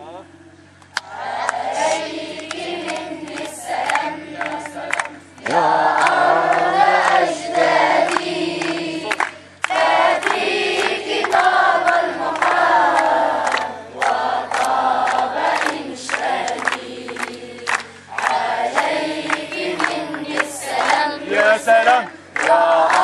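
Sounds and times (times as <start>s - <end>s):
sharp claps: 0.8s - 1.6s, 2.3s - 23.0s
children singing in unison: 1.0s - 23.0s.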